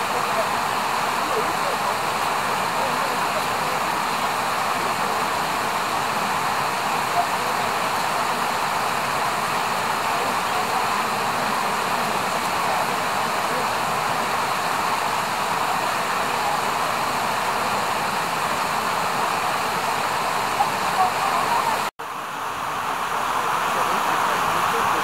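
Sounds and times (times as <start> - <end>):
river flowing over rocks: 0.0 - 25.0.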